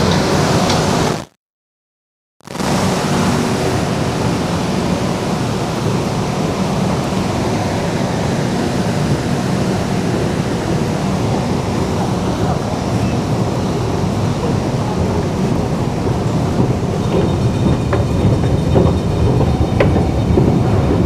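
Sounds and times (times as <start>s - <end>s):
rushing hum of metro platform: 0.0s - 1.3s, 2.4s - 21.0s.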